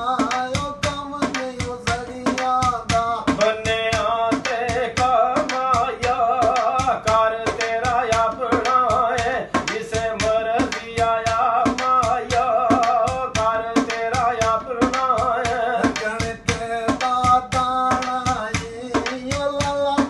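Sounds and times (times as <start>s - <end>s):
folk singing: 0.0s - 20.0s.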